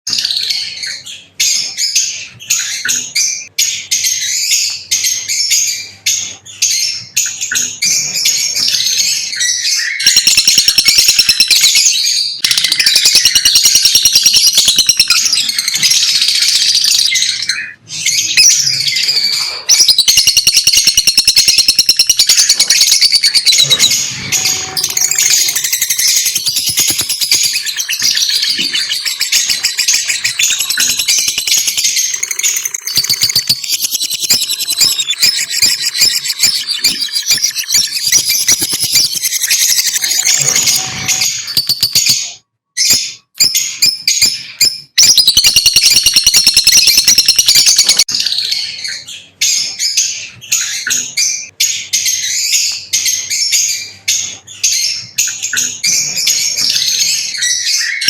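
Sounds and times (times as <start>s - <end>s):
lovebirds chattering: 0.1s - 58.0s.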